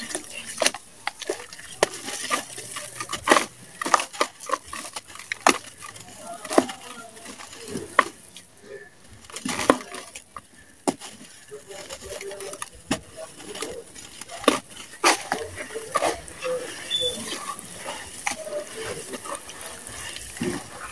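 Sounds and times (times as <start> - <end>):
pieces splashing into water: 0.0 - 8.5, 9.1 - 20.9.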